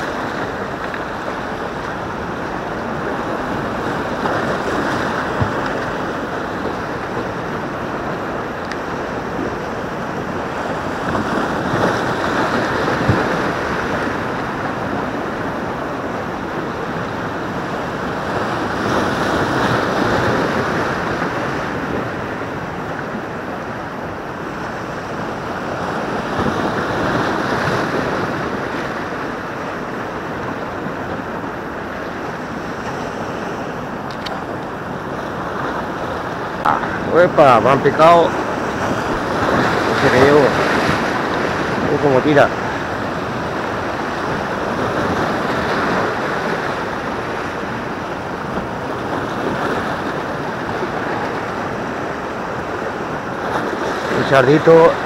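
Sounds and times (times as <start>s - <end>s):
waves breaking on rocky shore: 0.0s - 55.0s
wind buffeting microphone: 0.0s - 55.0s.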